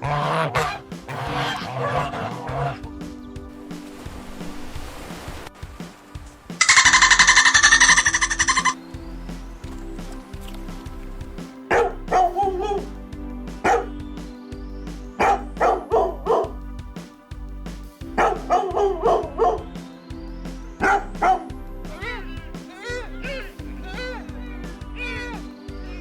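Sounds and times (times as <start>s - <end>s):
background music with beat: 0.0s - 26.0s.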